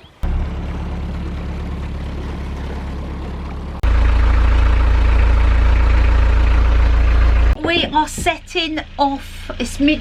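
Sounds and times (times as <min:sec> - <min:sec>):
diesel engine idling: 0:00.2 - 0:10.0.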